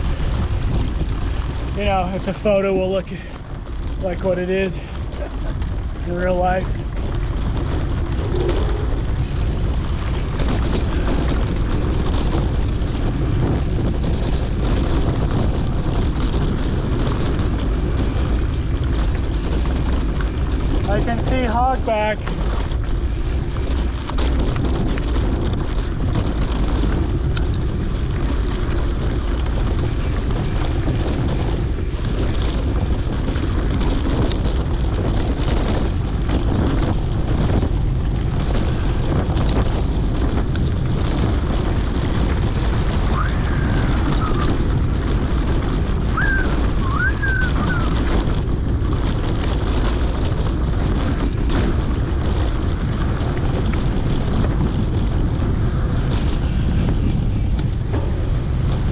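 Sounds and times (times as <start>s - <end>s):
wind rumbling on microphone: 0.0s - 58.9s.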